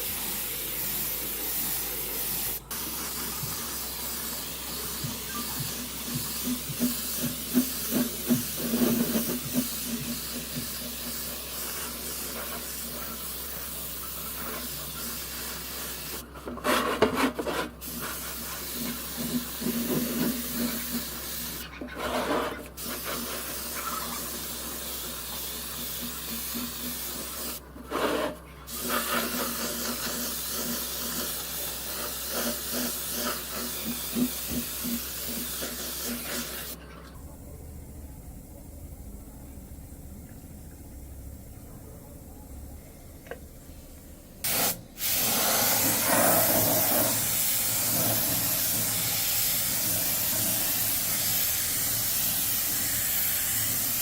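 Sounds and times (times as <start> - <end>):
compressed-air spray hissing: 0.0 - 16.3, 17.8 - 36.8, 43.7 - 54.0.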